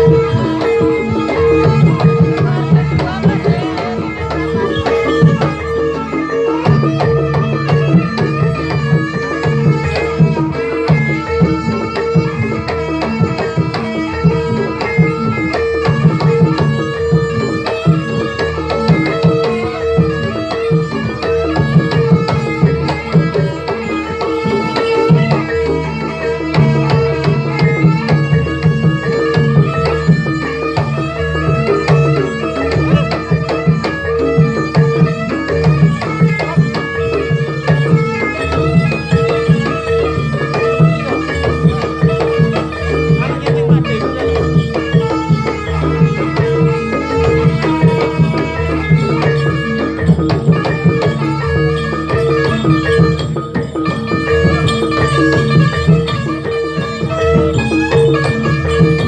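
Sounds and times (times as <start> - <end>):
hand drum rhythm: 0.0 - 59.0
steady held tone: 0.0 - 59.0.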